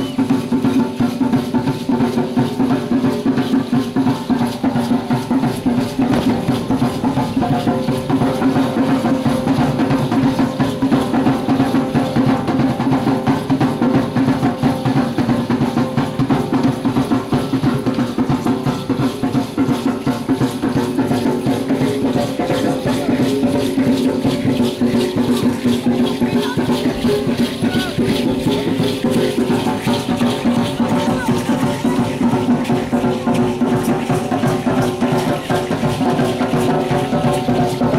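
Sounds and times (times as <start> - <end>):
fast steady drumming: 0.0 - 37.9
percussion: 0.0 - 37.9.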